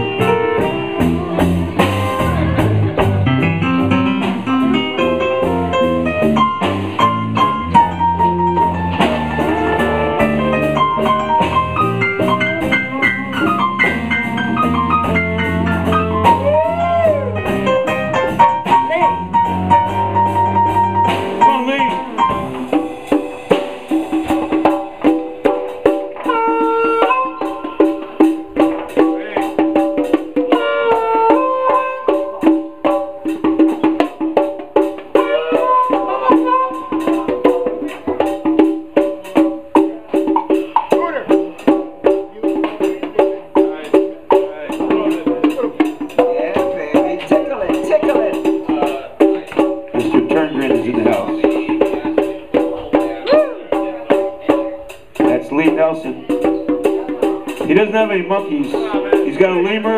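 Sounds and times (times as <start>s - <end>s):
bass: 0.0s - 59.9s
blues band playing: 0.0s - 59.9s
clicking percussion beat: 0.0s - 59.9s
drums: 0.0s - 59.9s.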